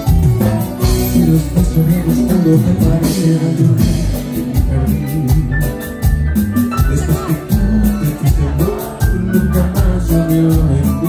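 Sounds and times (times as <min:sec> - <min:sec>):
congas: 0:00.0 - 0:11.0
latin band playing: 0:00.0 - 0:11.0.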